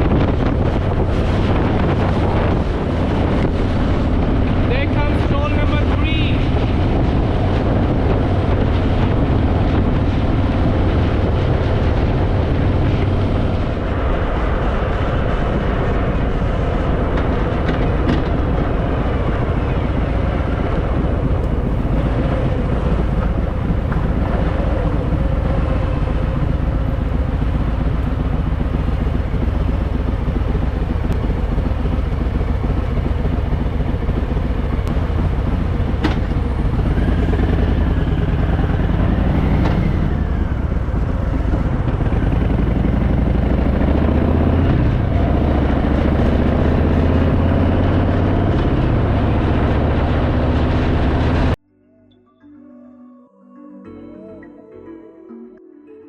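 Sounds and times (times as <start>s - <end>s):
motorcycle engine running: 0.0s - 51.6s
wind and road noise: 0.0s - 51.6s.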